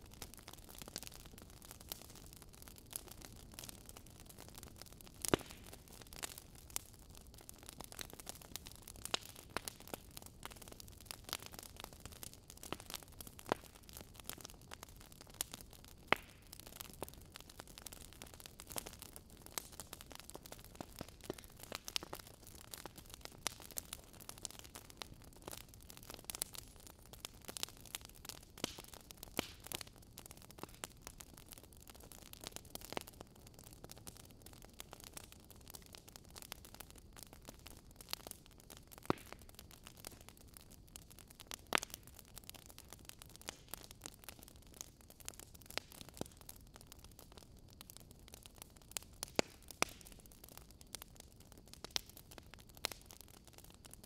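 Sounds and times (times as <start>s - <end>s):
burning wood crackling: 0.0s - 54.0s
faint steady hiss: 0.0s - 54.0s.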